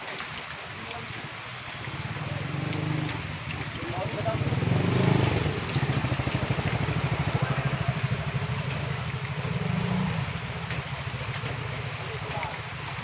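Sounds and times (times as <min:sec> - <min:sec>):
engine idling: 0:02.2 - 0:13.0.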